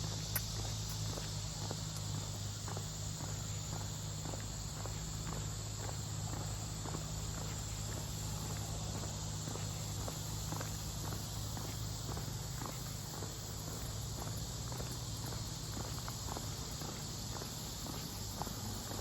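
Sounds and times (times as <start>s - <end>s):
footsteps on dirt trail: 0.0s - 19.0s
high-pitched insect chorus: 0.0s - 19.0s.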